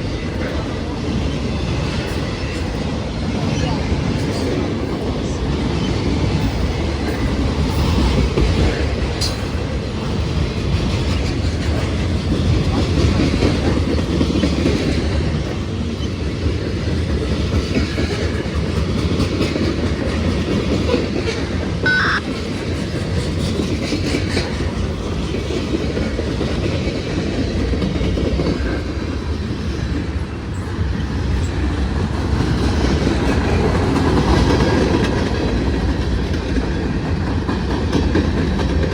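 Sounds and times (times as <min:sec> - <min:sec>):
train wheels clacking over rails: 0:00.0 - 0:38.9.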